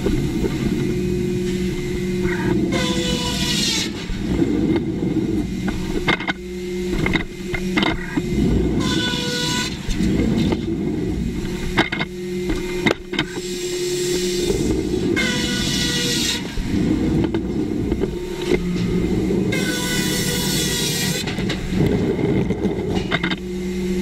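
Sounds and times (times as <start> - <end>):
sawmill machinery rumbling: 0.0 - 24.0.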